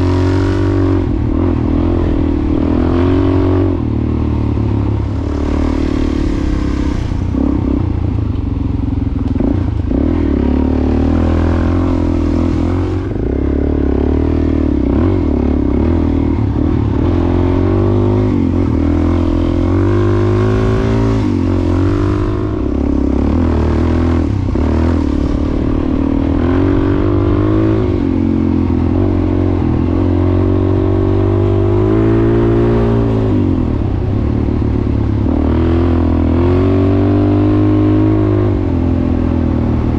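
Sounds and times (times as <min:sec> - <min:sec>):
motorcycle engine revving: 0:00.0 - 0:39.9
rushing wind and tyres: 0:00.0 - 0:39.9.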